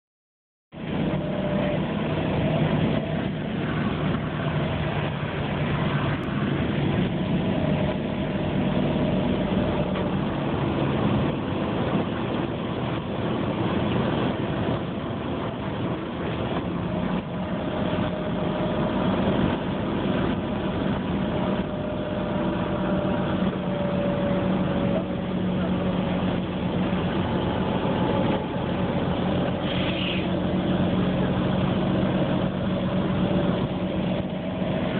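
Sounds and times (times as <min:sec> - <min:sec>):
engine hum: 0:00.7 - 0:34.9
road noise inside vehicle: 0:00.7 - 0:34.9.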